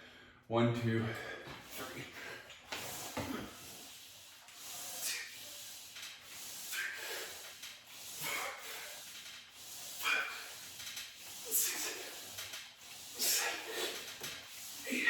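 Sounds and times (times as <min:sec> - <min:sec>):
man breathing hard: 0:00.0 - 0:00.5, 0:01.1 - 0:15.0.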